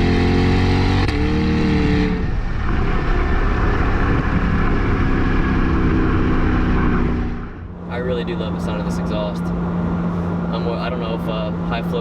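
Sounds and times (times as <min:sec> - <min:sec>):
rough exhaust while coasting: 0:00.0 - 0:12.0
sports car engine accelerating: 0:00.0 - 0:12.0.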